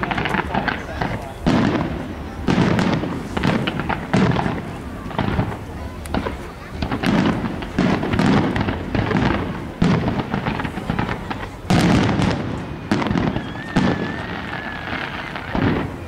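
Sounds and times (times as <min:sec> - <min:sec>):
firework crackling: 0:00.0 - 0:16.0
firework shells booming: 0:00.0 - 0:16.0.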